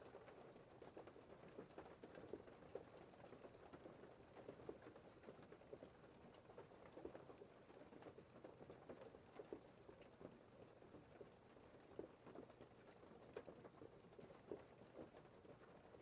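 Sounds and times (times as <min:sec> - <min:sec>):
light rain pattering: 0:00.0 - 0:16.0.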